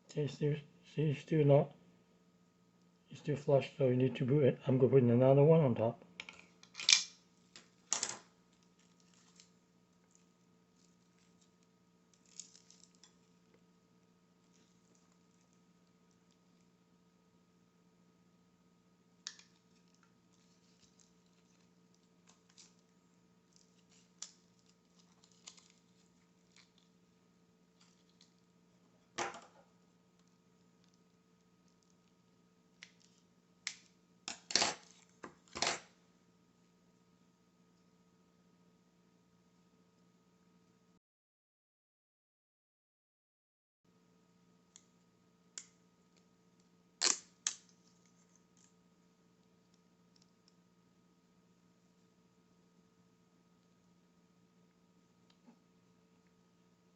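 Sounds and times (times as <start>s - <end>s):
faint hum: 0.0s - 41.0s, 43.9s - 56.9s.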